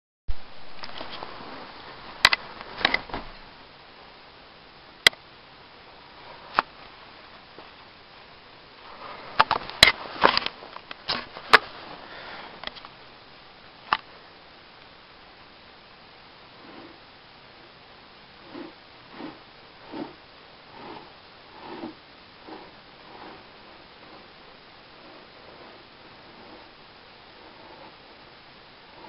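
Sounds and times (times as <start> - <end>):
steady hiss: 0.3 - 29.0.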